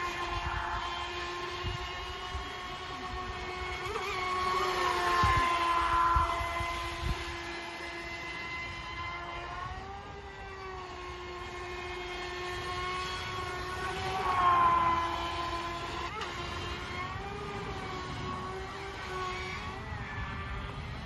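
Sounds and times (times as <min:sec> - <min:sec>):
speedboat electric motor whine: 0:00.0 - 0:21.0.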